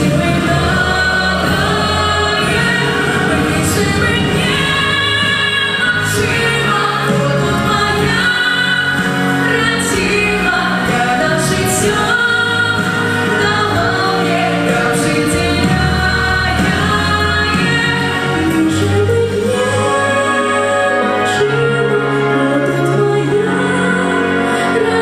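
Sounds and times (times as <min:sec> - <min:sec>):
choir-like backing voices: 0:00.0 - 0:25.0
instrumental accompaniment: 0:00.0 - 0:25.0.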